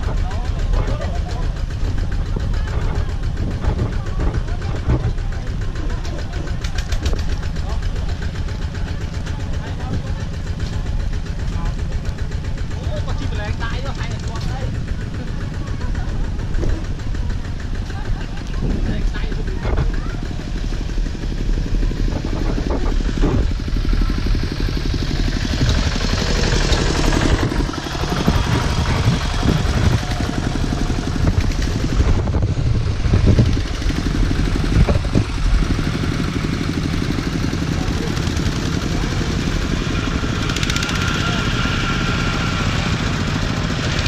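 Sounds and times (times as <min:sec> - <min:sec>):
diesel engine chugging: 0:00.0 - 0:44.0
trailer knocks and rattles: 0:00.0 - 0:44.0.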